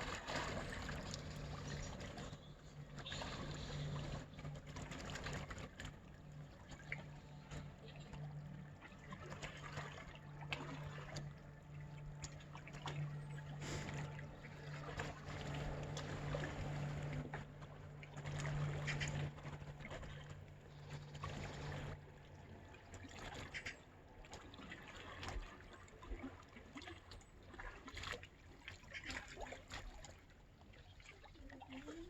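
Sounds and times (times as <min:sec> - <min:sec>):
steady low hum: 0:00.0 - 0:25.9
small splashes: 0:00.0 - 0:32.0.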